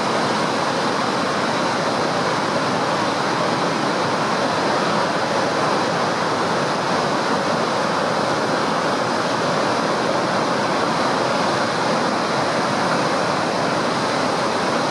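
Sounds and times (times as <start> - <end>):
whitewater rushing over a dam: 0.0 - 14.9.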